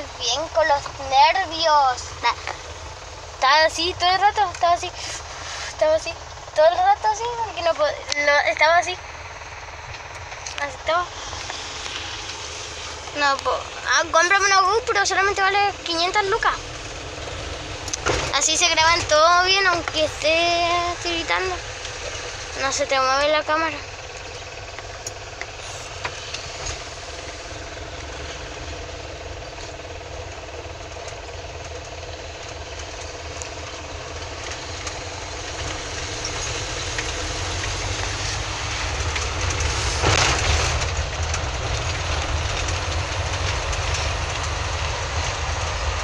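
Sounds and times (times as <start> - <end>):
car engine and road noise: 0.0 - 46.0
rush of noise: 8.8 - 46.0.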